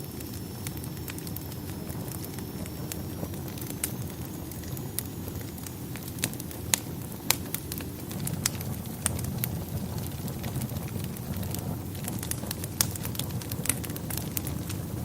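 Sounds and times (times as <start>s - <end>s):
low rumble of burning: 0.0s - 15.0s
wood fire crackling: 0.0s - 15.0s.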